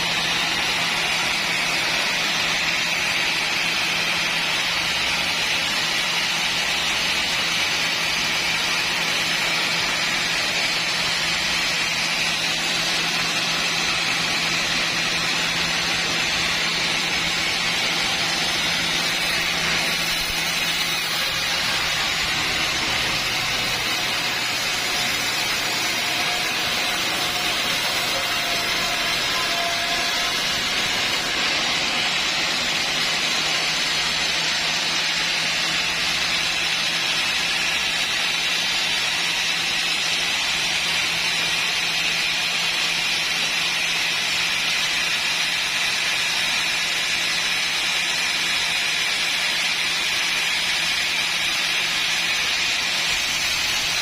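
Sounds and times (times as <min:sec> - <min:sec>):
sawmill saw running: 0:00.0 - 0:54.0.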